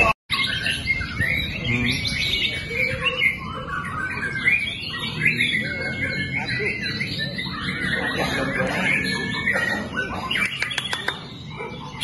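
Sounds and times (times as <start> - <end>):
bird singing chirps and whistles: 0.0 - 12.0.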